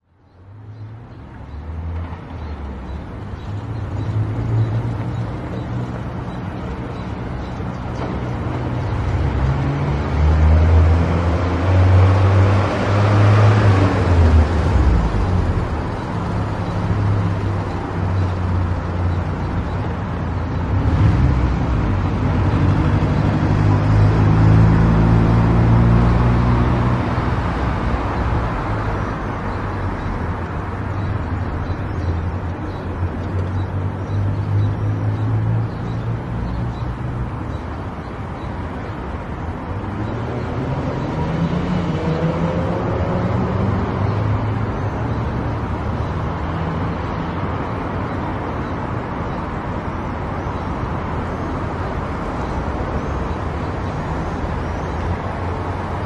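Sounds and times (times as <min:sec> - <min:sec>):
tyre and road noise: 0:00.0 - 0:56.0.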